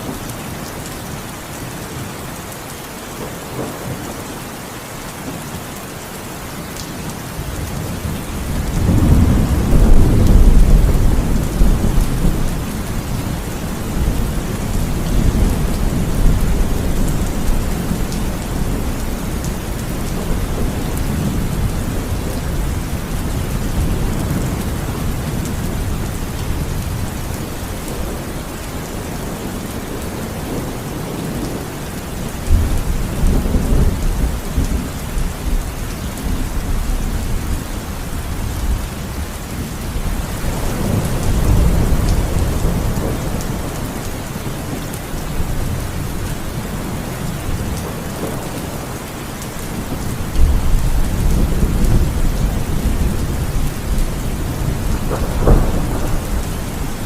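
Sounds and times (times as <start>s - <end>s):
heavy rain falling: 0.0s - 57.0s
thunder rumbling: 7.3s - 57.0s.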